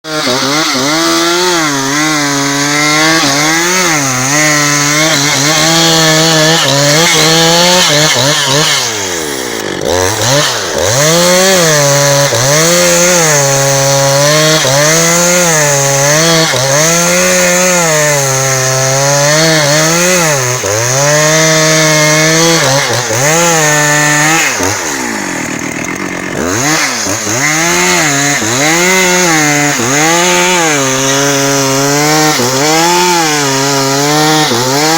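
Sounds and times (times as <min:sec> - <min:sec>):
chainsaw ripping a log: 0:00.0 - 0:34.9.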